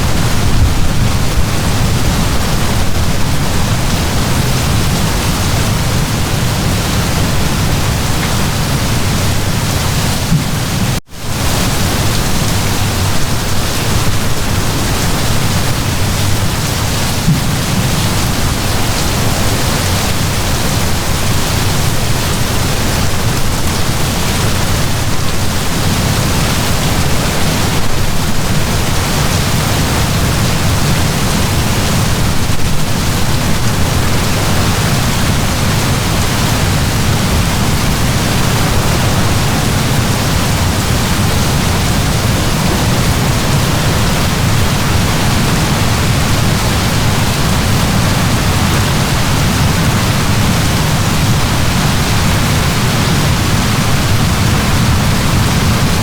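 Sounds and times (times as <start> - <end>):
heavy rain downpour: 0.0 - 56.0.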